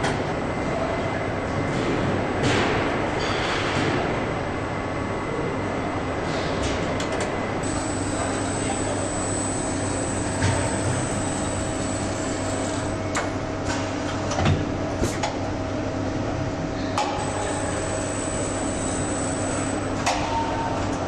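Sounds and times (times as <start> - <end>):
machinery hum and whine: 0.0 - 21.0.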